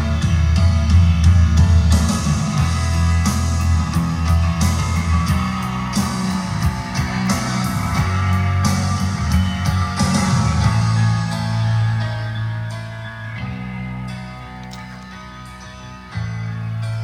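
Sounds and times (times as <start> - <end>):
rock music from speakers: 0.0 - 17.0.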